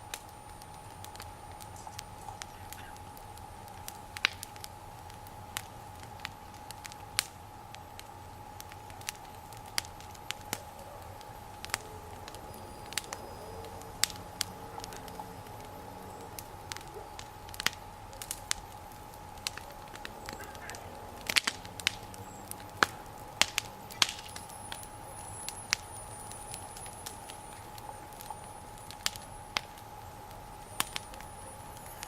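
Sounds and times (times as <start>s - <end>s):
burning wood popping: 0.0s - 32.0s
campfire crackling: 0.0s - 32.0s.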